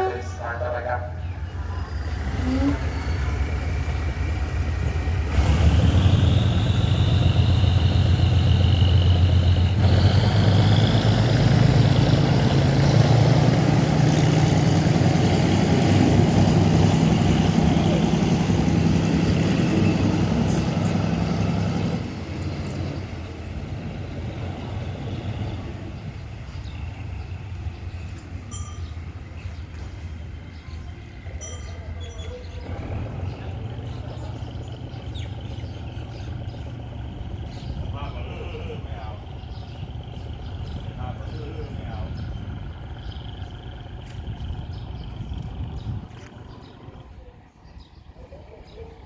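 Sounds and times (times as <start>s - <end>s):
diesel locomotive engine drone: 0.0s - 49.0s.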